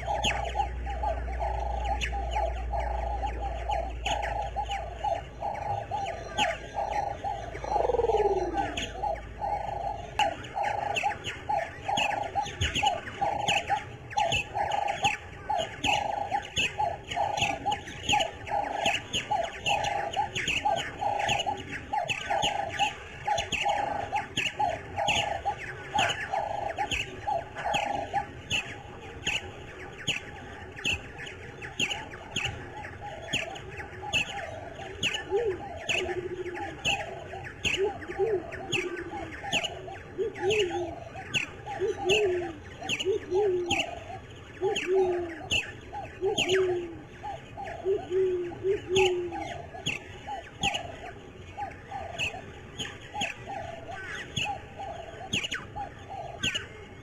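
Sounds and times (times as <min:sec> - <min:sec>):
low warbling bird calls: 0:00.0 - 0:57.0
lower repeated bird call: 0:00.0 - 0:57.0.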